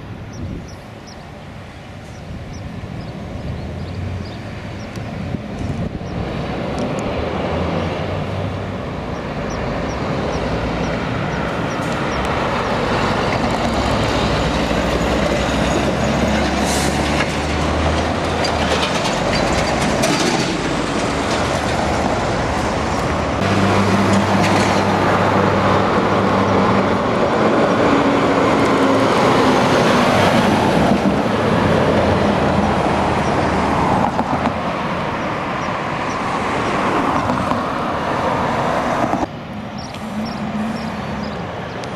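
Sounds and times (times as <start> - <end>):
cars passing: 0.0 - 41.9
truck engines: 0.0 - 41.9.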